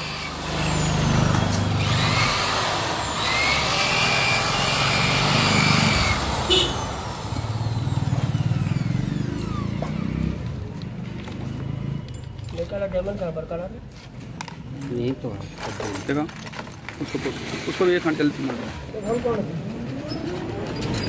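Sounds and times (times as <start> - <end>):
motor vehicle engines running: 0.0 - 16.2, 16.8 - 21.0.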